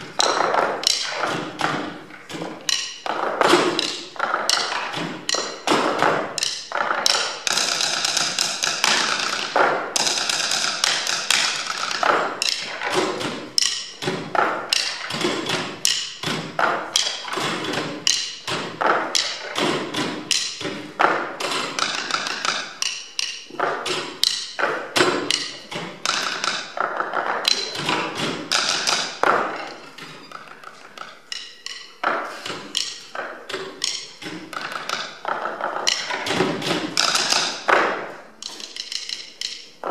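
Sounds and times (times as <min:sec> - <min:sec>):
drumsticks striking wooden desks: 0:00.0 - 0:39.9.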